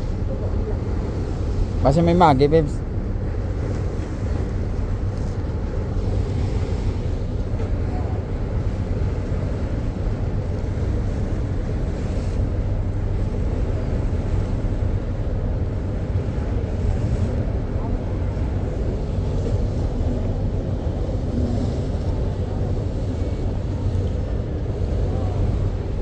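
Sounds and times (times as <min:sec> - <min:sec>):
boat engines droning: 0:00.0 - 0:26.0.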